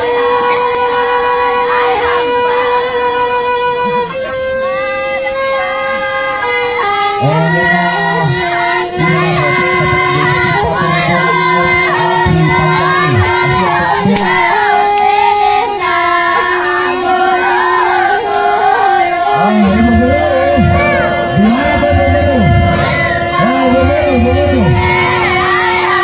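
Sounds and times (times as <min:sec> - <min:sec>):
held instrumental notes: 0:00.0 - 0:26.0
woman and children singing: 0:00.0 - 0:26.0.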